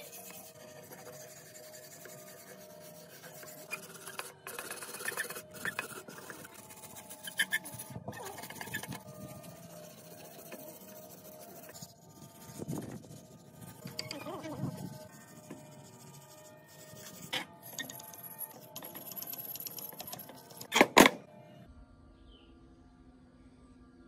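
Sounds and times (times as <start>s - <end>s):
wire brush scrubbing metal: 0.0s - 20.7s.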